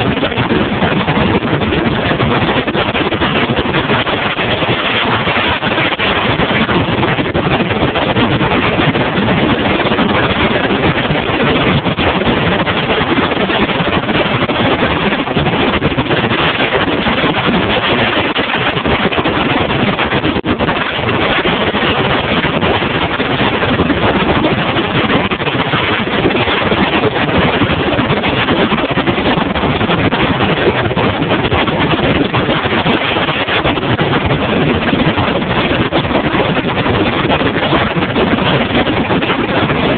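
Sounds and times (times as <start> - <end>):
boat rushing over choppy water: 0.0 - 39.9.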